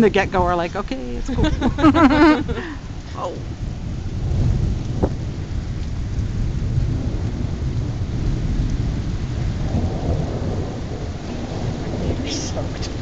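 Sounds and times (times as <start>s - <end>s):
pouring rain: 0.0s - 13.0s
thunder rumbling: 0.0s - 13.0s.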